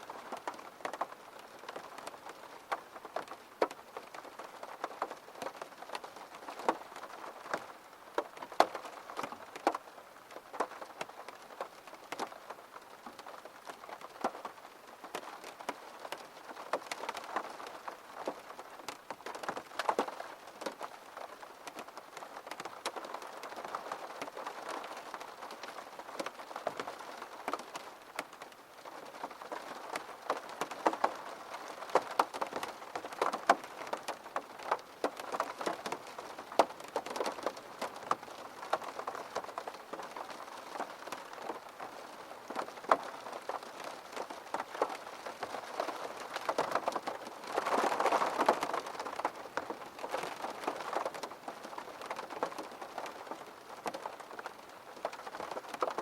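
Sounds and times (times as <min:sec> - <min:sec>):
raindrops tapping close by: 0:00.0 - 0:56.0
steady rain falling: 0:00.0 - 0:56.0.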